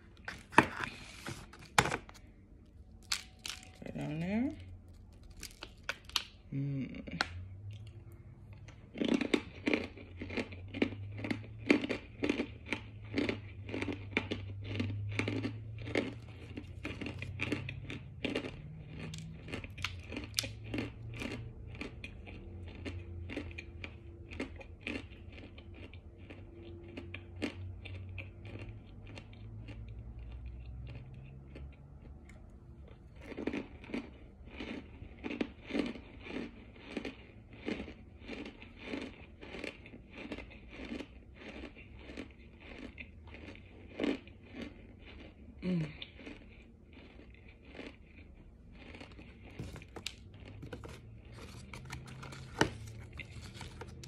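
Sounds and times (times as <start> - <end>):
crisp crunching and chewing: 0.0 - 6.5, 7.1 - 54.0.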